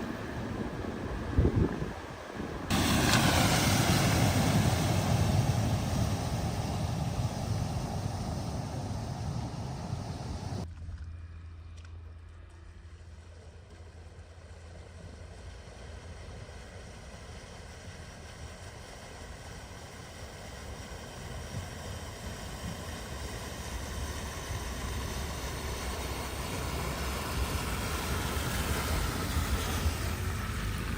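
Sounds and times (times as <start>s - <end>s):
rush of water: 0.0s - 10.6s, 15.8s - 30.9s
vehicle engine: 0.0s - 30.9s.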